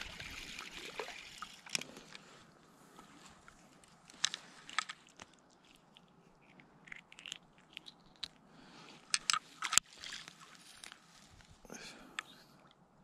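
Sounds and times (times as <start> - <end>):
hands handling fishing line: 1.6 - 12.8.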